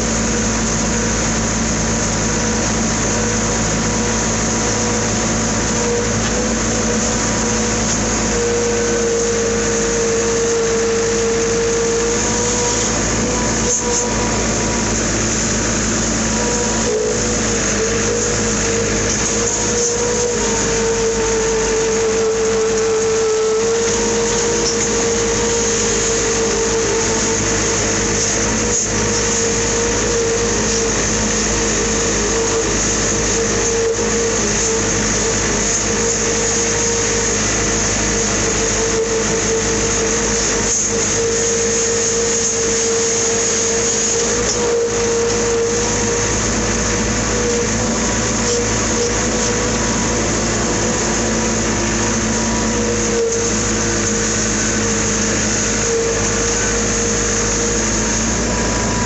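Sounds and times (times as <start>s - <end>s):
constant whine: 0.0s - 59.0s
farm machine engine running: 0.0s - 59.0s.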